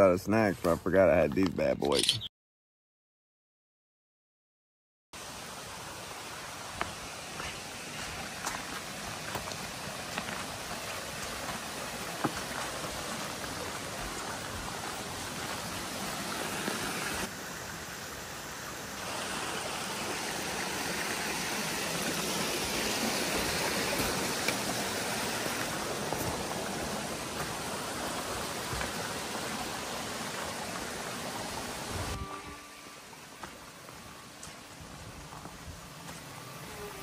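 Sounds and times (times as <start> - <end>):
rushing water: 5.2 - 37.0.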